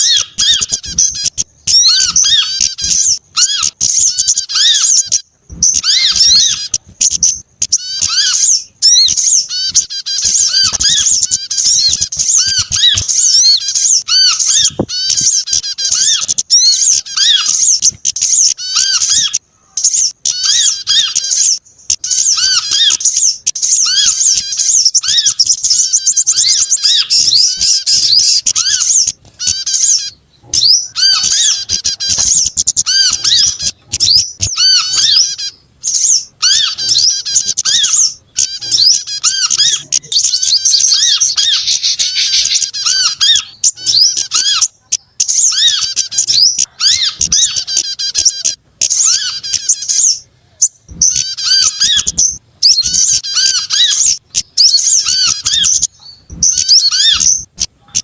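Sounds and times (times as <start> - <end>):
lower bird chirp: 0.0 - 58.0
songbirds chirping: 0.0 - 58.0.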